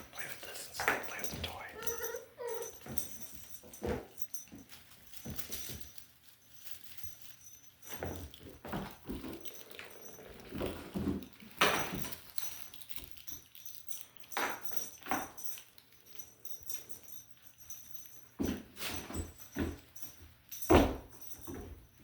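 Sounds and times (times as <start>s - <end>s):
kittens scuffling with toys: 0.0s - 22.0s.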